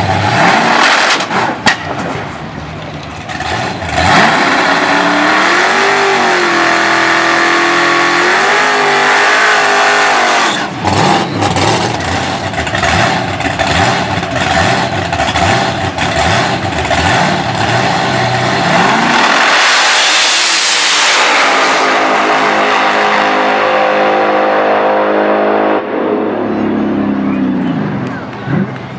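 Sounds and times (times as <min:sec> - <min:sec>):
drag car engine revving and popping: 0:00.0 - 0:28.9.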